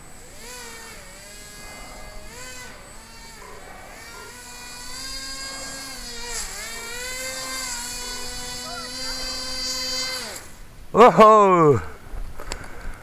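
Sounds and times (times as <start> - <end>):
airboat motor and propeller whining: 0.0 - 10.7.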